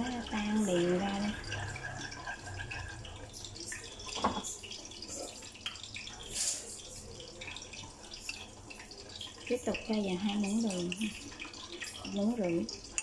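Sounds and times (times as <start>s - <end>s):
thick sauce stirring wetly: 0.0s - 13.0s.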